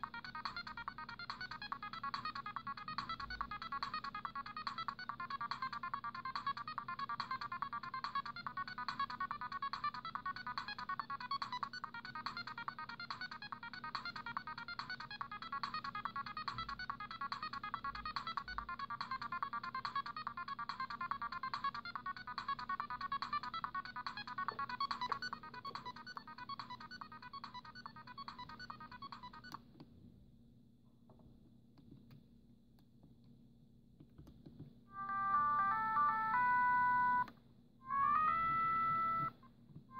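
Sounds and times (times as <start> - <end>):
mobile phone beeping ringtone: 0.0 - 29.6, 35.0 - 37.3, 37.9 - 39.4.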